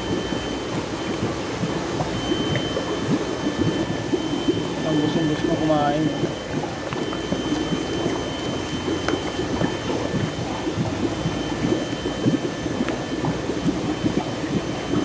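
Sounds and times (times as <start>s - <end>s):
faint high whine: 0.0s - 15.0s
water splashing and bubbling: 0.0s - 15.0s.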